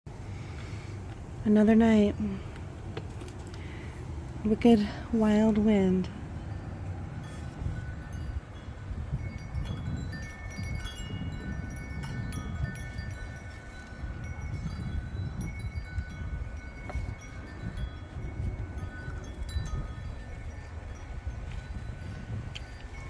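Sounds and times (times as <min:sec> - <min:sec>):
wind buffeting microphone: 0:00.1 - 0:23.0
metal wind chimes ringing: 0:03.0 - 0:23.0.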